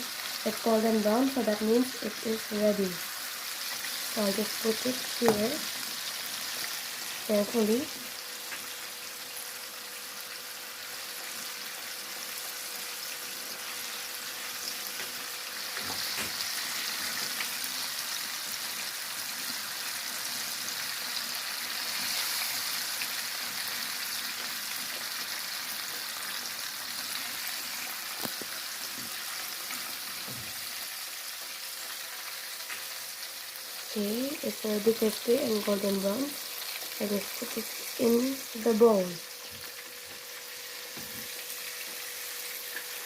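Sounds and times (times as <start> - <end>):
chicken deep-frying in oil: 0.0 - 43.0.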